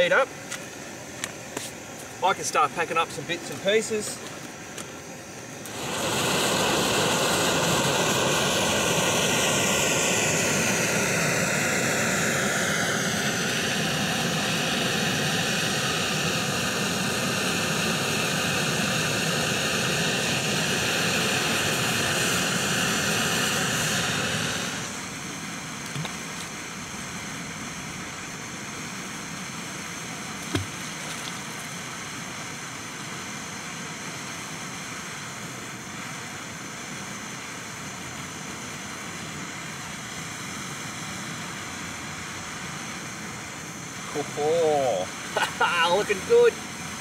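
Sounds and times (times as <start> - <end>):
gas stove burner hissing: 0.0 - 47.0.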